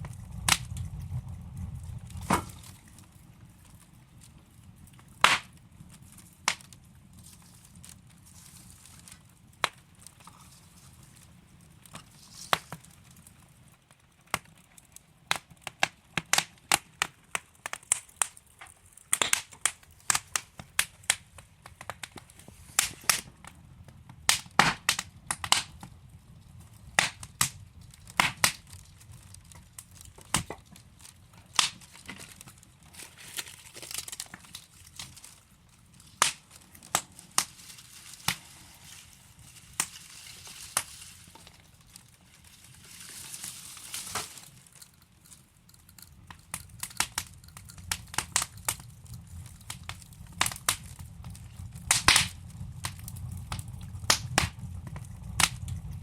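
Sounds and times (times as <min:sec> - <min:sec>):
fire hissing softly: 0:00.0 - 0:56.0
logs crackling and popping: 0:00.0 - 0:56.0.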